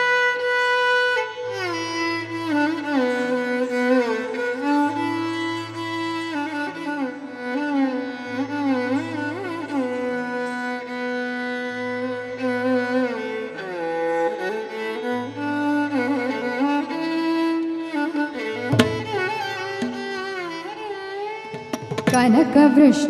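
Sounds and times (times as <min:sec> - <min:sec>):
violin playing sliding melody: 0:00.0 - 0:23.0.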